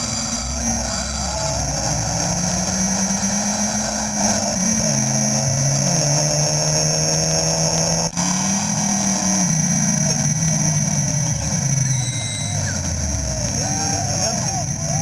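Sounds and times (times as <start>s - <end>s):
drag race cars accelerating: 0.0s - 15.0s.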